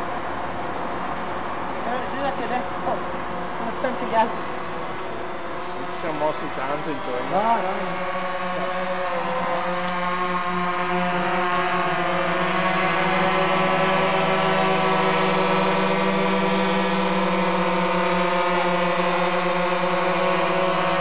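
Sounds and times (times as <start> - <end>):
drone propellers buzzing: 0.0 - 21.0.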